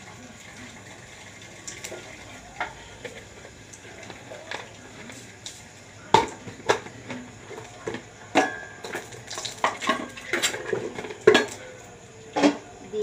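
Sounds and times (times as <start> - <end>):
oil sizzling faintly in a pan: 0.0 - 13.0.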